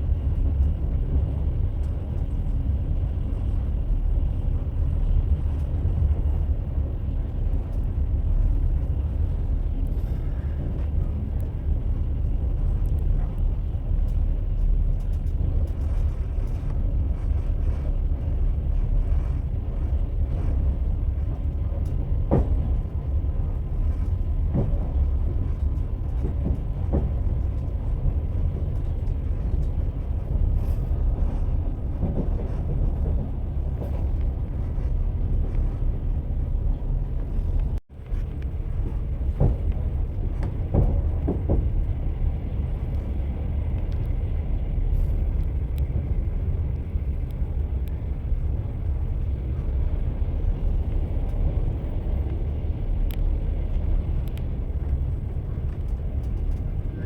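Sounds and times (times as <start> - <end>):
train wheels running on rails: 0.0 - 57.0.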